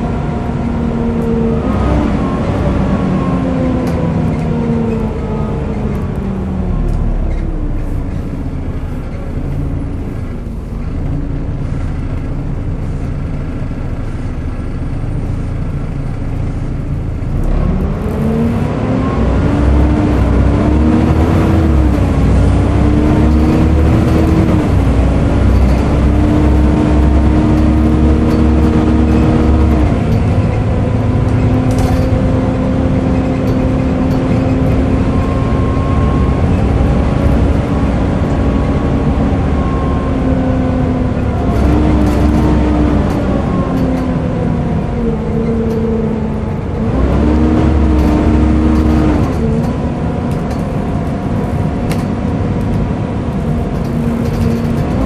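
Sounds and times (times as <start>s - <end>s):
bus engine: 0.0s - 55.0s.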